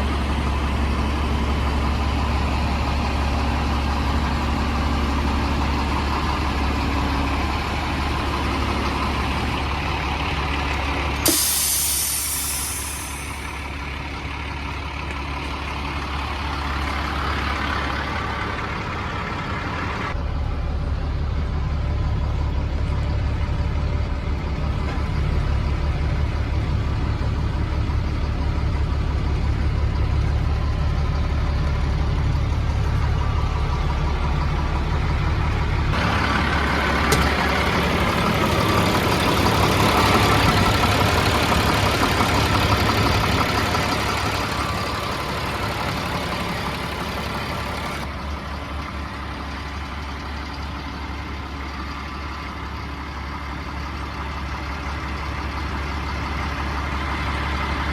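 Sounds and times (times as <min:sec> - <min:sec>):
diesel truck engine running: 0:00.0 - 0:57.9.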